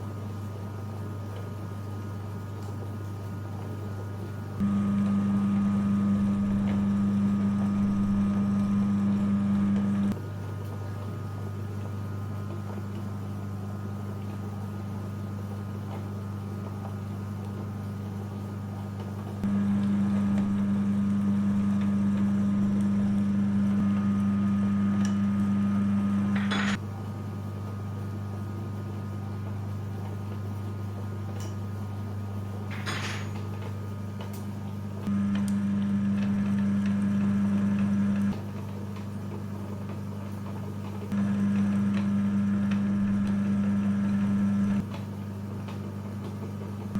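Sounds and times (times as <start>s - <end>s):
meat grinder motor humming: 2.8s - 32.7s, 33.9s - 46.9s.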